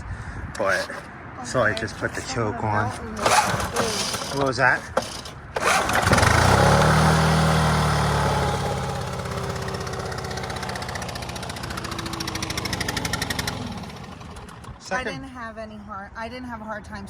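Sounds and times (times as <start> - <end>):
leaf blower engine running: 0.6 - 1.1, 1.7 - 15.0.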